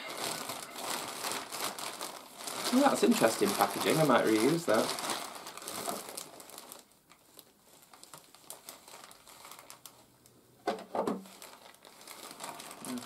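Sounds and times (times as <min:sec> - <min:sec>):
plastic packaging crinkling: 0:00.0 - 0:10.3, 0:11.0 - 0:13.0.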